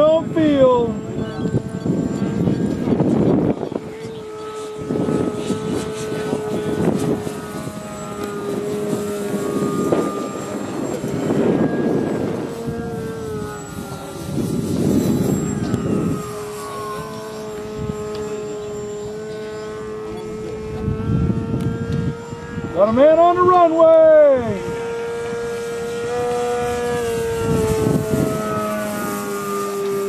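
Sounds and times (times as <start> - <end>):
model airplane motor whine: 0.0 - 30.0
wind buffeting microphone: 0.0 - 30.0.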